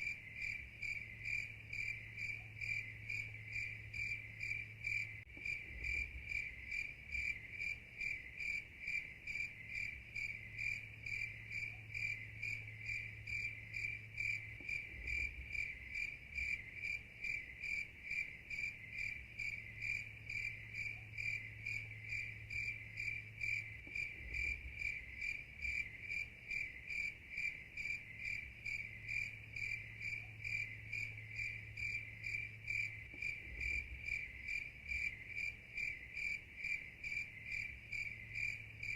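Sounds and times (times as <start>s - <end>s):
night insects chirping: 0.0s - 38.9s.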